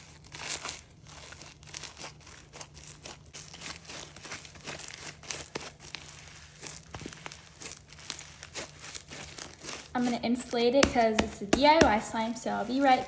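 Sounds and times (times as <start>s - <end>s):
slime crackling and popping: 0.0s - 13.0s.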